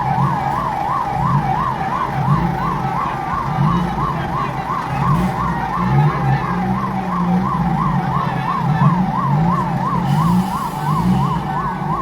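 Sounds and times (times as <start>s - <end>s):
emergency siren yelping: 0.0s - 12.0s.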